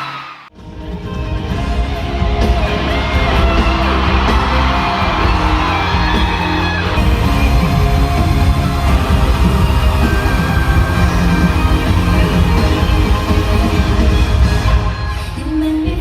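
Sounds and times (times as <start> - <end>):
crowd yelling: 0.0 - 0.5, 1.9 - 15.6
loud pop music over speakers: 0.0 - 16.0.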